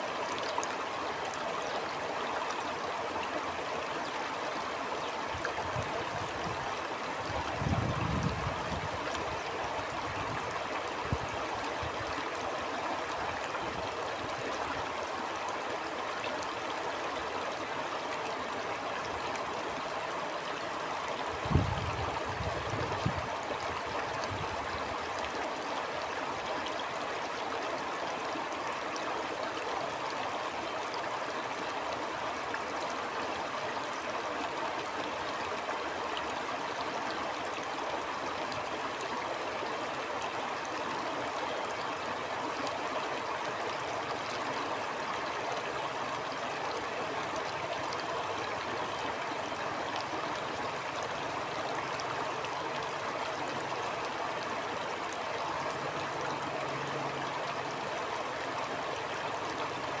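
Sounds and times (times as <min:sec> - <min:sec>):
stream water flowing: 0:00.0 - 1:00.0.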